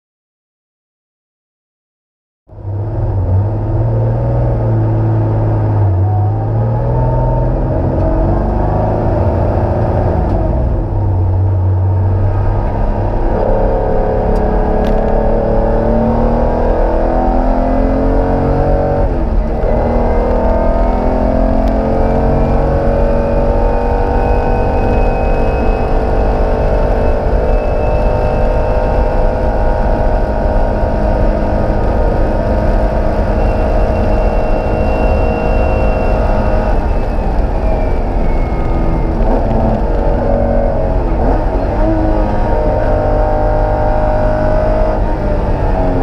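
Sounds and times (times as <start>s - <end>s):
car engine revving through gears: 2.5s - 46.0s.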